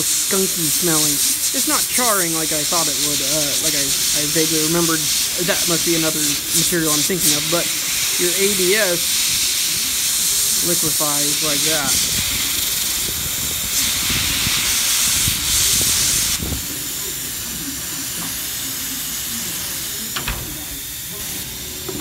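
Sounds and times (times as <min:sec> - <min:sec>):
hot-air welder hissing: 0:00.0 - 0:22.0.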